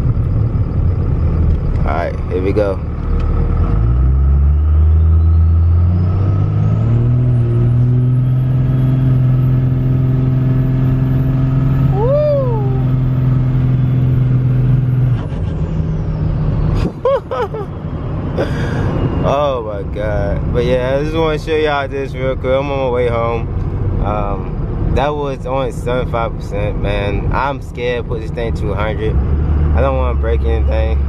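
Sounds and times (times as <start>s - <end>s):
diesel engine accelerating hard: 0.0s - 31.0s.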